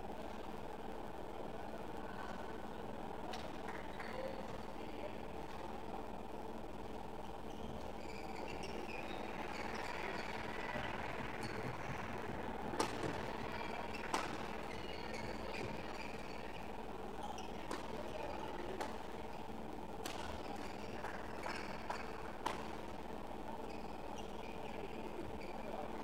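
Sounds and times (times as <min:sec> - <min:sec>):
sports hall hum: 0:00.0 - 0:26.0.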